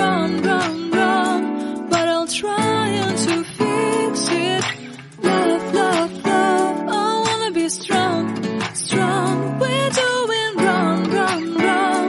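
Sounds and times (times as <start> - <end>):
person singing: 0.0 - 12.0
strummed acoustic guitar: 0.0 - 12.0.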